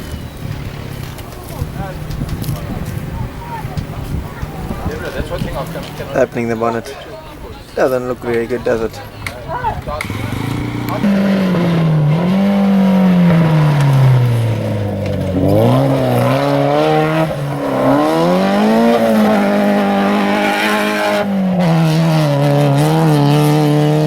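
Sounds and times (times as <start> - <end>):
rally car engine revving: 0.0 - 6.9, 9.8 - 24.0.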